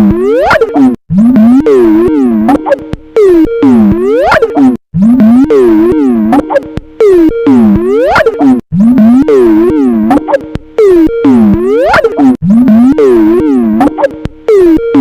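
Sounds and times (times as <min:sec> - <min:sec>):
pitch-warped ringtone: 0:00.0 - 0:15.0.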